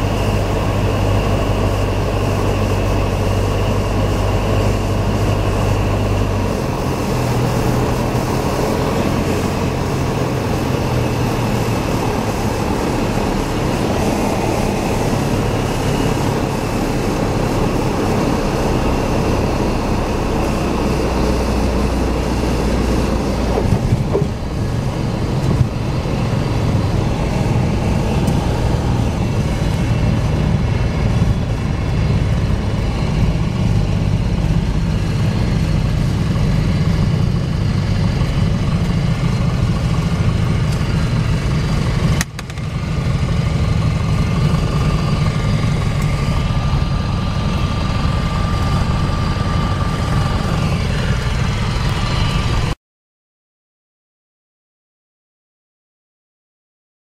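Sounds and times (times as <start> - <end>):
light aircraft engine and propeller: 0.0 - 52.8.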